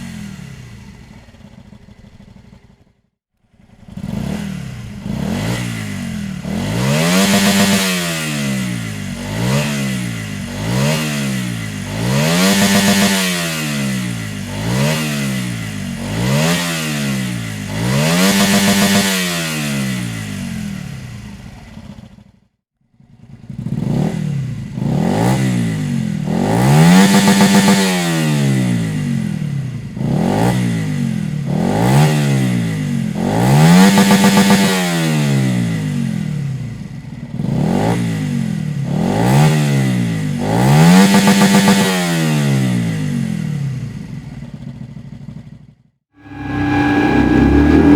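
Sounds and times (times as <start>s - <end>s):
motorcycle engine revving: 0.0s - 3.0s, 3.6s - 22.4s, 23.0s - 47.9s.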